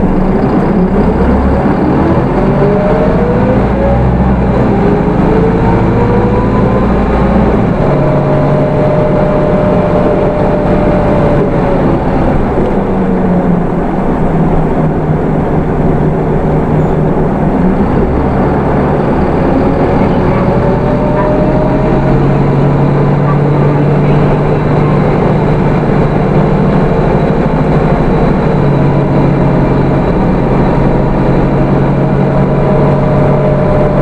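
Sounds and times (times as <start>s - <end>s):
bus engine whine and drone: 0.0s - 34.0s
road noise: 0.0s - 34.0s.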